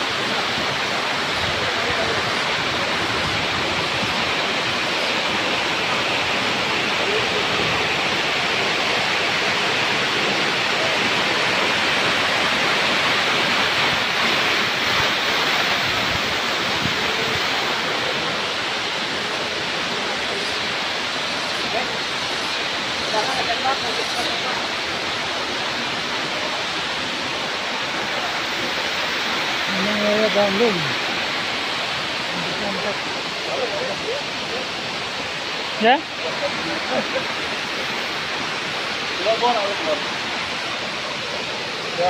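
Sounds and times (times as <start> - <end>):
waterfall and rocky stream: 0.0 - 42.0.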